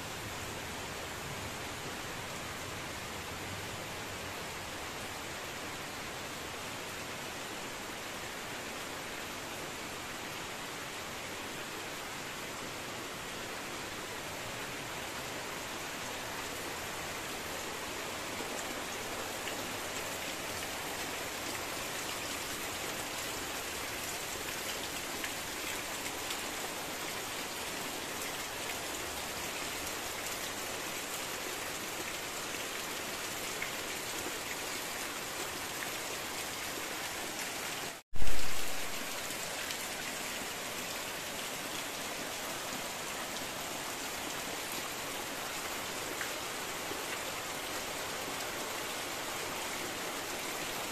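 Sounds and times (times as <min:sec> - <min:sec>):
heavy rain on foliage: 0:00.0 - 0:50.9.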